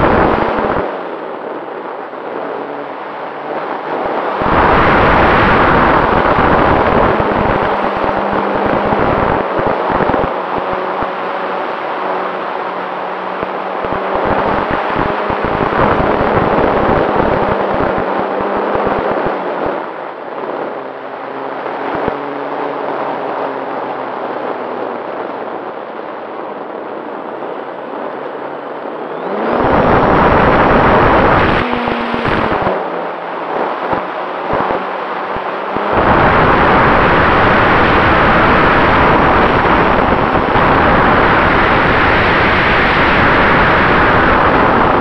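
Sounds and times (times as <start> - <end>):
wind buffeting microphone: 0.0 - 12.6, 13.2 - 45.0.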